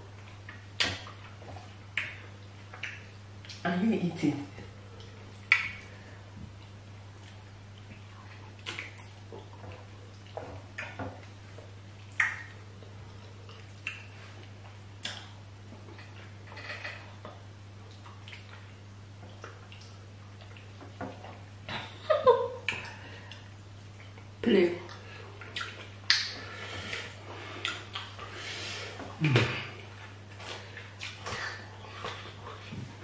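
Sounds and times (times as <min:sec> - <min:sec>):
low steady hum: 0:00.0 - 0:33.0
wet eating clicks and smacks: 0:00.3 - 0:03.6, 0:05.0 - 0:06.0, 0:06.6 - 0:11.4, 0:12.0 - 0:16.4, 0:17.2 - 0:21.5, 0:22.6 - 0:24.3, 0:24.9 - 0:28.3, 0:29.0 - 0:32.8.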